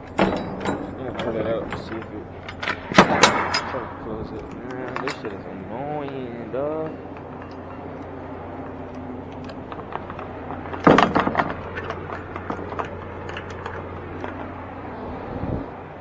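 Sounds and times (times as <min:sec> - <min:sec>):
loud metal clank: 0:00.0 - 0:13.9
rattling and clicking: 0:00.0 - 0:15.0
truck engine idling: 0:00.0 - 0:16.0.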